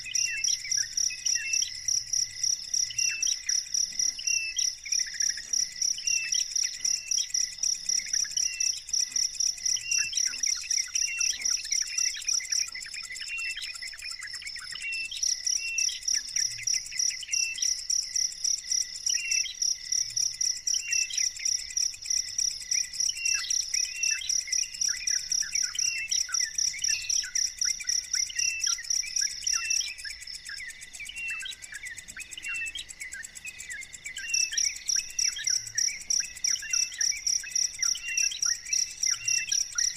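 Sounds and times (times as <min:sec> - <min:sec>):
bird chirps: 0:00.0 - 0:39.9
insect chirping: 0:00.0 - 0:39.9.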